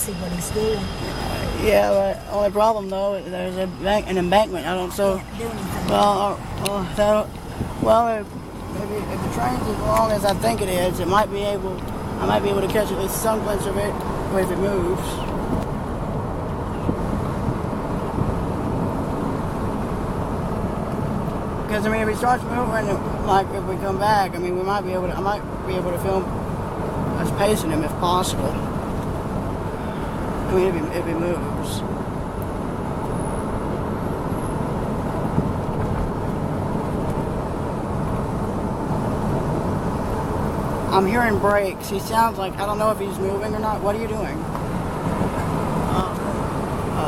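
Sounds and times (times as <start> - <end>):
car interior low rumble: 0.0 - 47.0.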